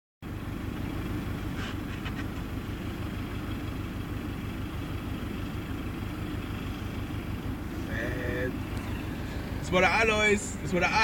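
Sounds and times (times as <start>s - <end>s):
rally car engine rumbling: 0.2s - 11.0s.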